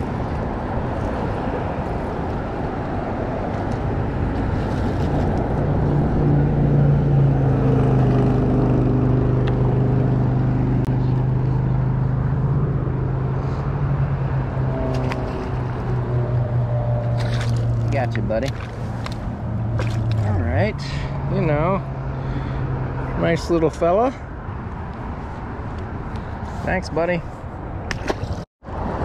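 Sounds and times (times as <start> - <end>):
vehicle engine low drone: 0.0 - 26.7
passing cars: 0.0 - 29.0.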